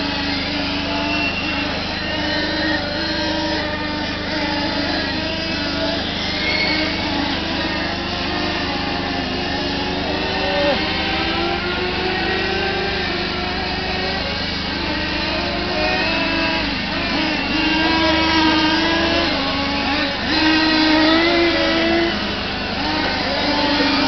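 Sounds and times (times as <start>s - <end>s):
model car engines buzzing: 0.0s - 24.0s.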